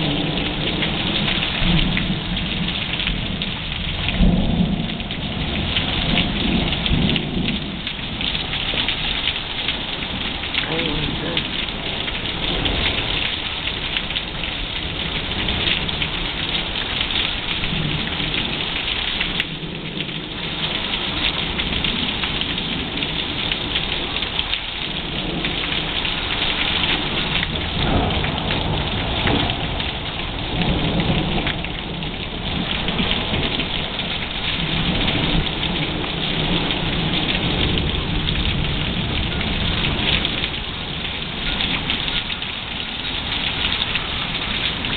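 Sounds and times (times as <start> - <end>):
low rolls of thunder: 0.0 - 42.3
rain falling: 0.0 - 44.9.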